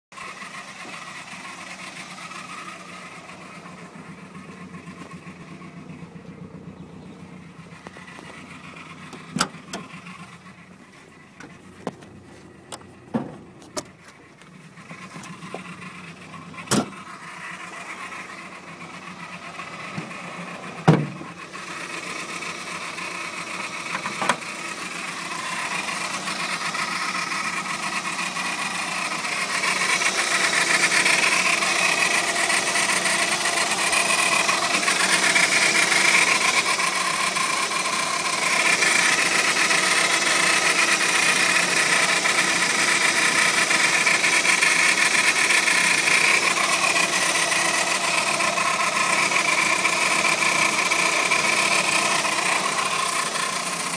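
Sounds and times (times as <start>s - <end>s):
car engine running: 0.1s - 53.9s.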